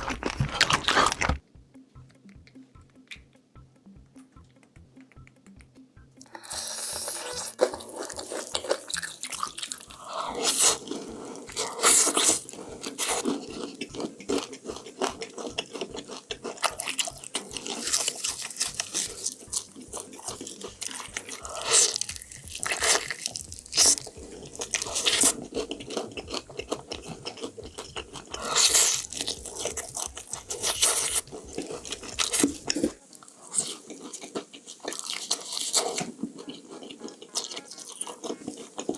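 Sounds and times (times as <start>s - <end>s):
crunching fried chicken bites: 0.0s - 1.4s, 6.2s - 38.9s
chewing close up: 6.2s - 38.9s.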